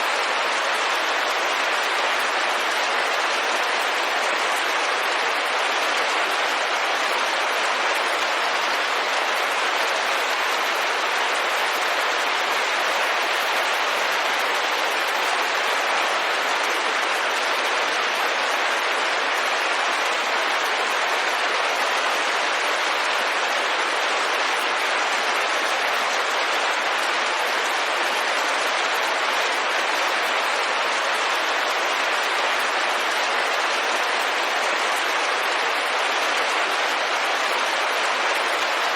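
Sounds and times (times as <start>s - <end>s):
rain falling on a window: 0.0s - 38.9s.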